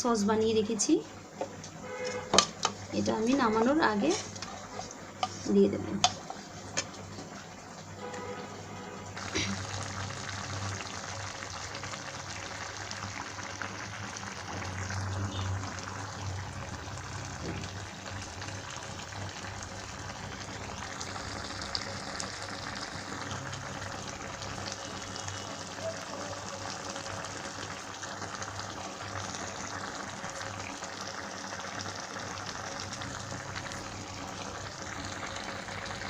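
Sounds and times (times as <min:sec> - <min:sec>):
sauce bubbling in a pan: 0:00.1 - 0:36.0.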